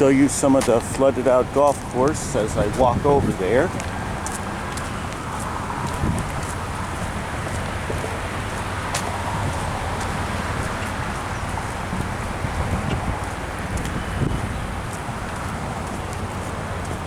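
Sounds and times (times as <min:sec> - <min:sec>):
road traffic rumble: 0:00.0 - 0:17.0
wind on microphone: 0:00.0 - 0:17.0.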